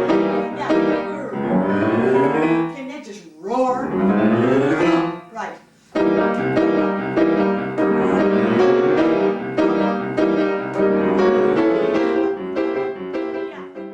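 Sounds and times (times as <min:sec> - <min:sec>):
classical piano playing: 0:00.0 - 0:02.8, 0:03.7 - 0:05.4, 0:06.0 - 0:13.9.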